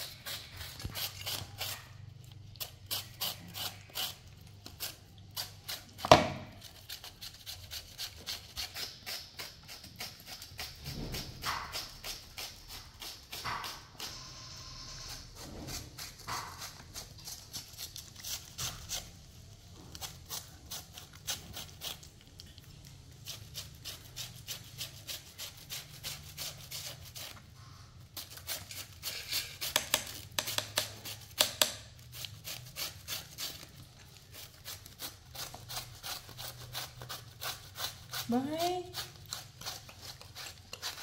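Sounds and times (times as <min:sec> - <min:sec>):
knife scraping vegetable: 0:00.0 - 0:22.4, 0:23.1 - 0:41.0.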